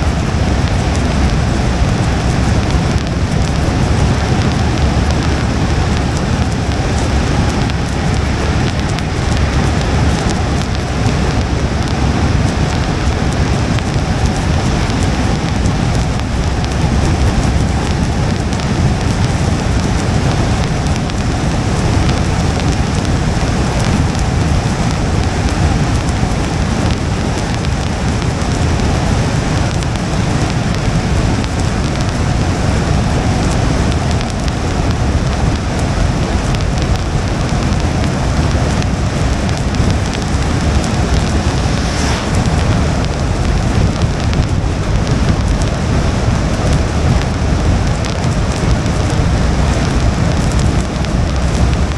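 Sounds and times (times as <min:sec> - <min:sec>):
rain on a moving car: 0:00.0 - 0:51.9
tyre noise on wet road: 0:00.0 - 0:51.9.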